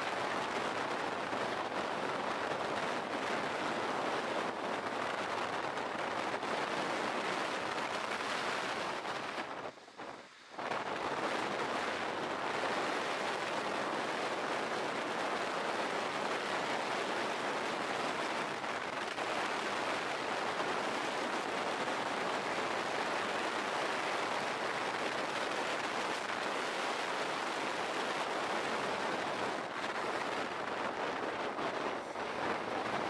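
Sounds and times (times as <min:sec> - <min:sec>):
skateboard wheels rolling on asphalt: 0:00.0 - 0:33.0.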